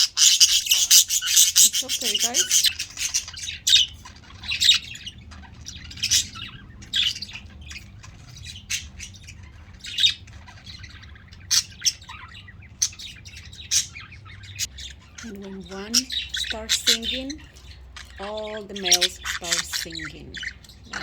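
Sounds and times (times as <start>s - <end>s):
budgerigars chirping and squawking: 0.0s - 21.0s
faint low hum: 0.0s - 21.0s.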